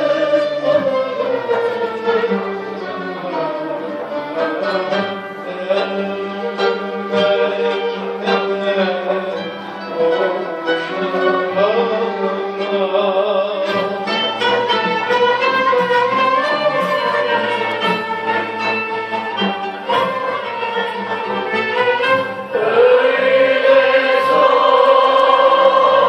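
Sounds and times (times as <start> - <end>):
bowed strings melody with ensemble: 0.0 - 26.0.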